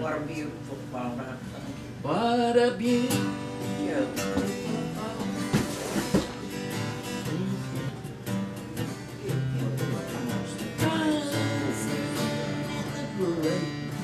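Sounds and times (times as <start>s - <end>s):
acoustic guitar strumming: 1.7s - 14.0s.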